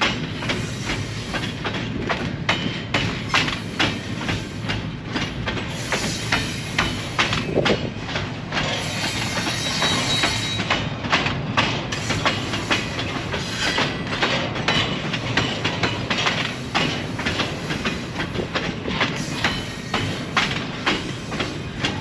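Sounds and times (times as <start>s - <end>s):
train running noise: 0.0s - 22.0s
train wheels clattering on rails: 0.0s - 22.0s.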